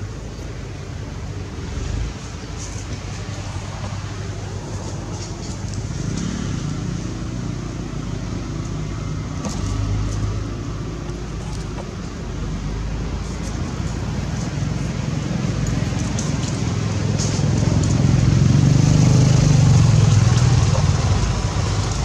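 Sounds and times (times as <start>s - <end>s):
engine low rumble: 0.0s - 22.0s.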